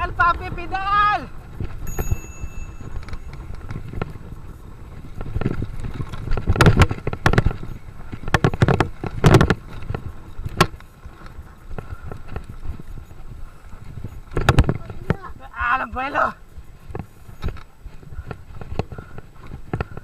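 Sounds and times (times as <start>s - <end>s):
mountain bike rattling on dirt trail: 0.0s - 20.0s
wind rumbling on microphone: 0.0s - 20.0s.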